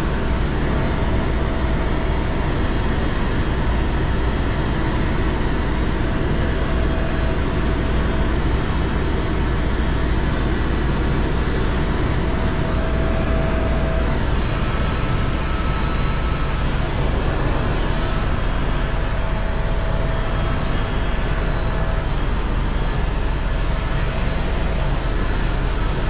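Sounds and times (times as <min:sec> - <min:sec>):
helicopter rotor and engine din: 0:00.0 - 0:26.0.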